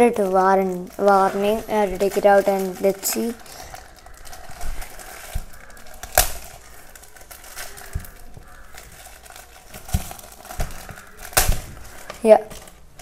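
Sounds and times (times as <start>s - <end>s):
plastic packet rustling: 0.0s - 13.0s.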